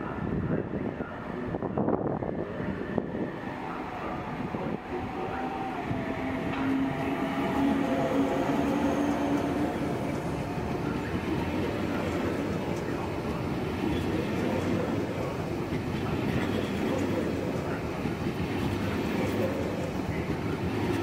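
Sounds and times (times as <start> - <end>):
wheels rumbling on rail: 0.2 - 21.0.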